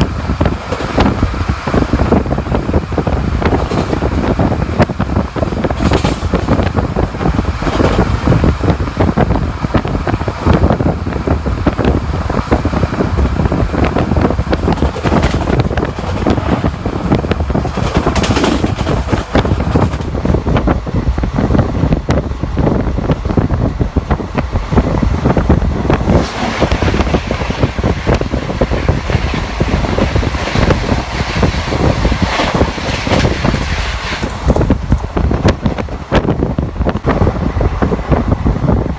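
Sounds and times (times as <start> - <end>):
train rumbling on track: 0.0 - 38.9
wind buffeting microphone: 0.0 - 38.9.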